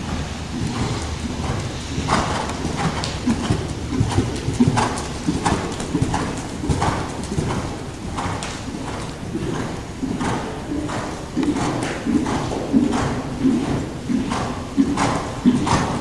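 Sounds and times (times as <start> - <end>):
horse hoofbeats on arena footing: 0.0 - 16.0.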